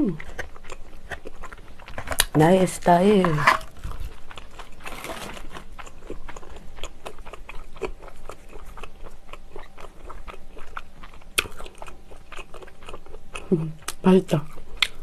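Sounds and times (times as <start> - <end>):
biting and chewing bread roll: 0.0 - 15.0.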